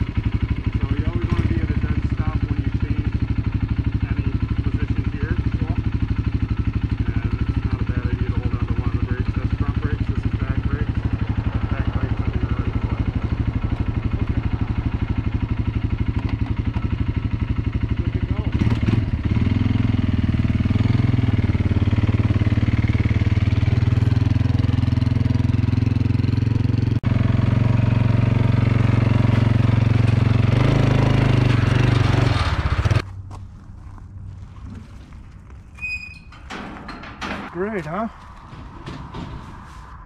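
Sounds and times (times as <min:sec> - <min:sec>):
atv engine running: 0:00.0 - 0:35.6.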